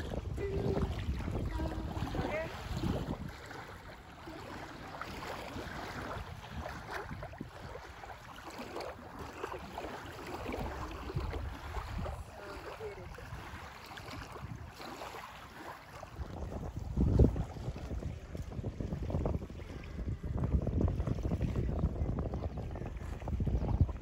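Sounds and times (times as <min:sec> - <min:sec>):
small waves lapping: 0:00.0 - 0:24.0
wind buffeting microphone: 0:00.0 - 0:24.0.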